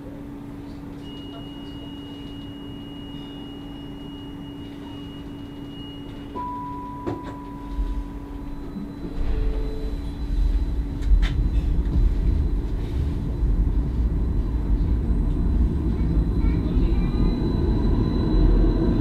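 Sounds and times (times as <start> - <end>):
tram electrical hum: 0.0 - 19.0
lower electronic tone: 1.0 - 19.0.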